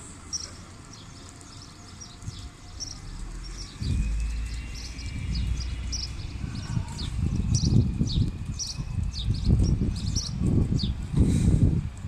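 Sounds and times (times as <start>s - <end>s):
small birds chirping: 0.1s - 11.4s
low rumble: 2.0s - 11.9s.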